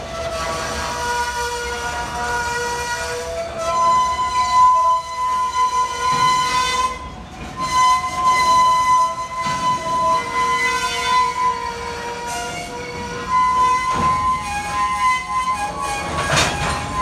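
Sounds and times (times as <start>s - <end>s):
rumble of freight cars: 0.0s - 17.0s
train wheels squealing: 0.0s - 17.0s.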